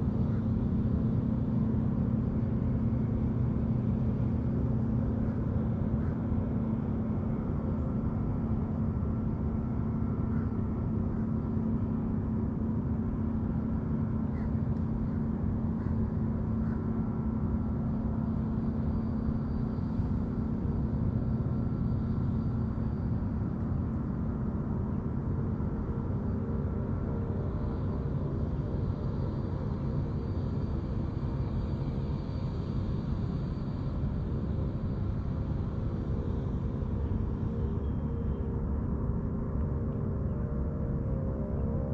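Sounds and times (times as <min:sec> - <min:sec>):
low engine drone: 0:00.0 - 0:41.9.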